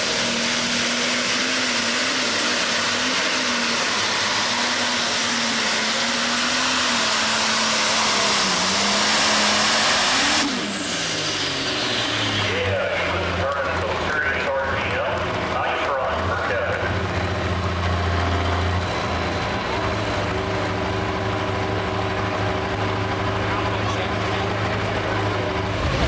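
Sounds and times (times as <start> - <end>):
tractor engine running flat out: 0.0 - 26.0.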